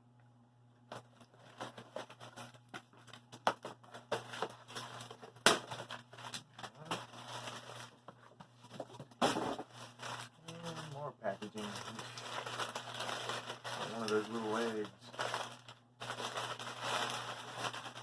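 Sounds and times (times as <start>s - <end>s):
packing material crinkling: 0.9s - 8.2s, 9.5s - 18.0s.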